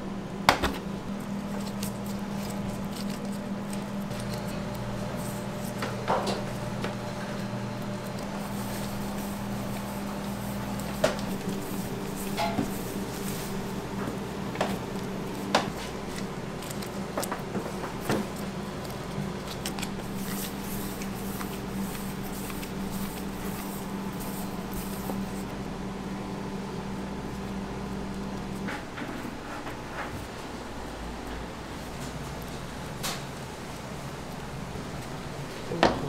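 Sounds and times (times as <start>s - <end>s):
kitchen equipment hum: 0.0s - 36.0s.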